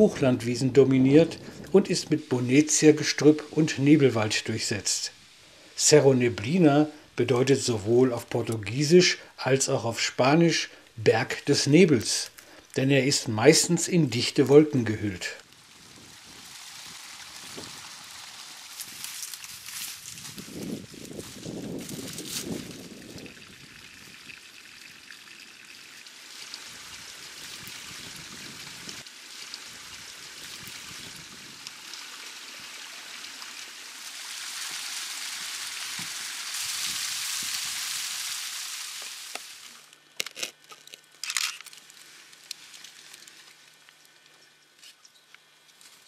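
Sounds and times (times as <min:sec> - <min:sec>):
steady outdoor rushing hiss: 0:00.0 - 0:46.0.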